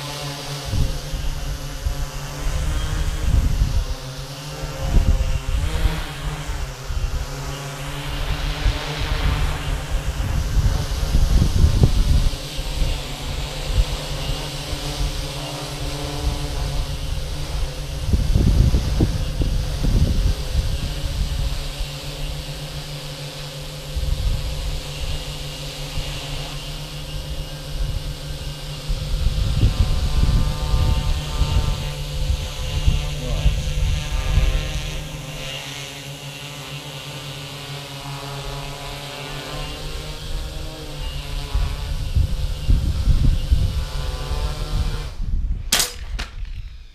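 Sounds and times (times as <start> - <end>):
drone propellers humming: 0.0 - 46.9
wind buffeting microphone: 0.4 - 35.6, 38.5 - 46.9.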